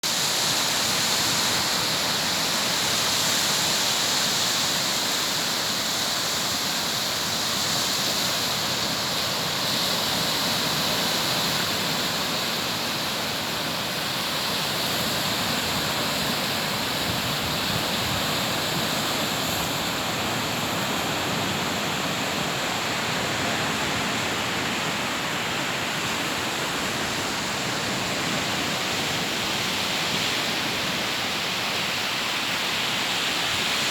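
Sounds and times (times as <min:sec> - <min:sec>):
sea surf washing onto beach: 0:00.0 - 0:33.9.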